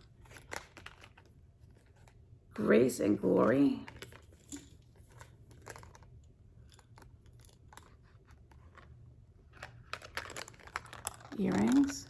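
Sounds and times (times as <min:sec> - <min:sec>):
package clicks and rustles: 0:00.0 - 0:02.3, 0:03.8 - 0:12.0.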